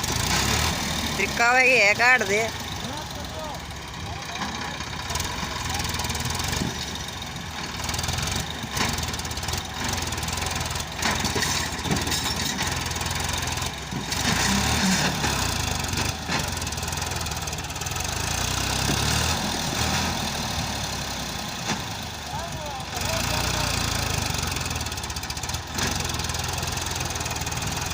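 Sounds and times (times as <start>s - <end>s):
diesel engines running: 0.0s - 27.9s.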